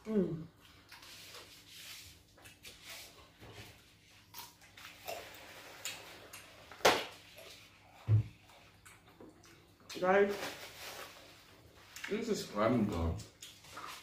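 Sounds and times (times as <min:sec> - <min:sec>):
people eating by hand: 0:00.4 - 0:10.0, 0:10.8 - 0:14.0.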